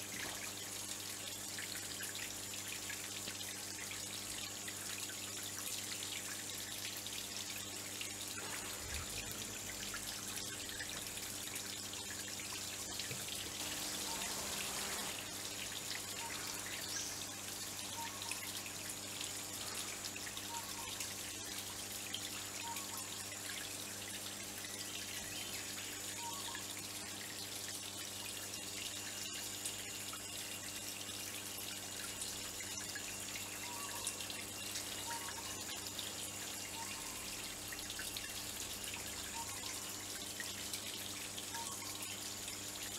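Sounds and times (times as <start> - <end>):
water trickling over rocks: 0.0 - 42.9.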